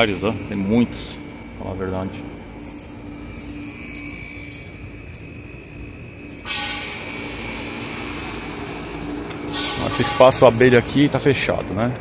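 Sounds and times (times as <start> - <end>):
buzzing hiss: 0.0 - 11.6.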